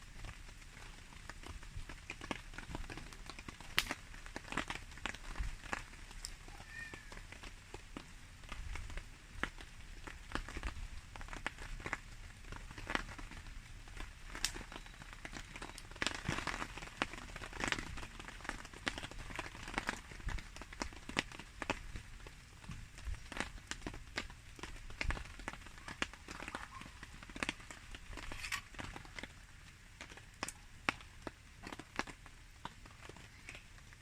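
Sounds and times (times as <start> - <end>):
campfire crackling and popping: 0.0 - 34.0
rain pattering: 0.0 - 34.0.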